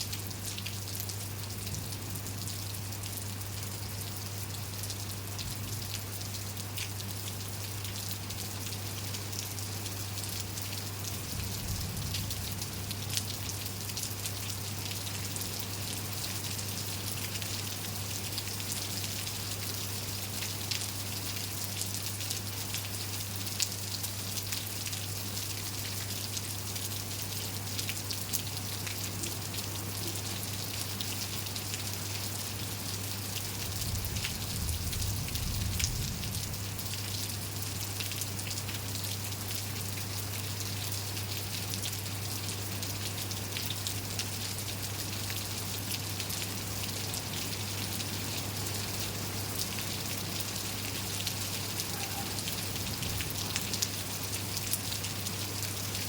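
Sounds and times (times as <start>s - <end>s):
raindrops ticking on surfaces: 0.0s - 56.0s
steady rain falling: 0.0s - 56.0s.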